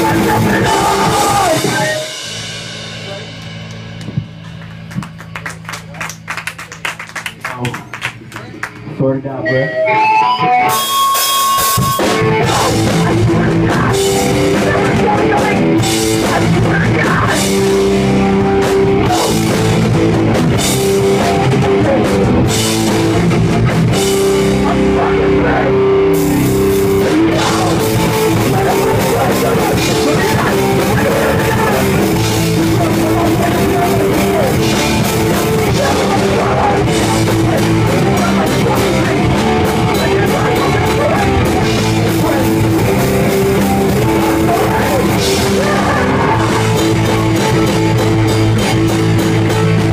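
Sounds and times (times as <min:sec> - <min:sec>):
live rock band playing: 0:00.0 - 0:49.9
lone guitar line: 0:00.0 - 0:49.9.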